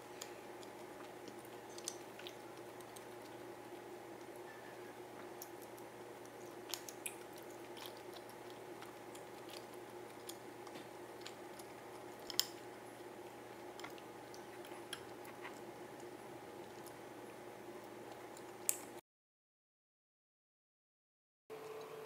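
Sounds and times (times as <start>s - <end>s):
person chewing soft food: 0.0s - 18.9s
steady background hum: 0.0s - 19.0s.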